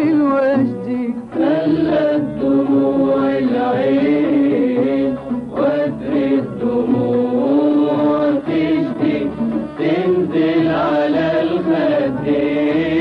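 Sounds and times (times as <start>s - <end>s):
old recording of arabic song: 0.0s - 13.0s.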